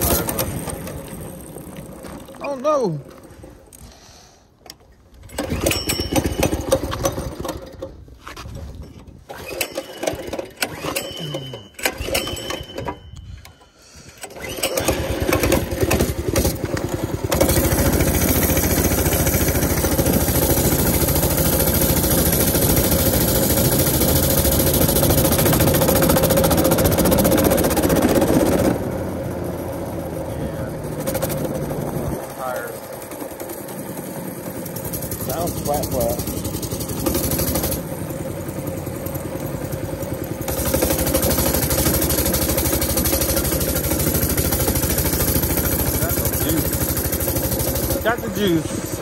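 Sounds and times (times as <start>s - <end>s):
small engine sputtering and running: 0.0s - 3.9s, 5.1s - 49.0s.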